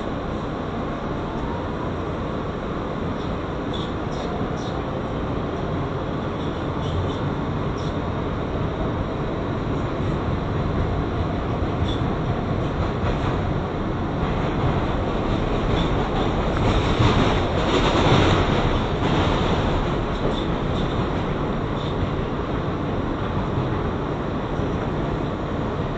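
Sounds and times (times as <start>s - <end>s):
subway wheels rumbling on rails: 0.0s - 25.9s.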